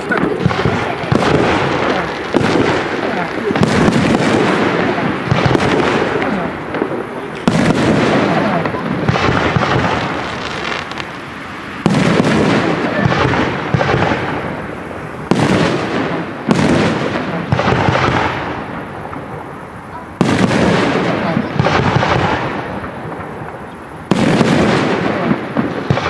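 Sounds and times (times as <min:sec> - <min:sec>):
firework shells bursting: 0:00.0 - 0:19.4, 0:20.2 - 0:26.0
firework crackling: 0:00.0 - 0:26.0.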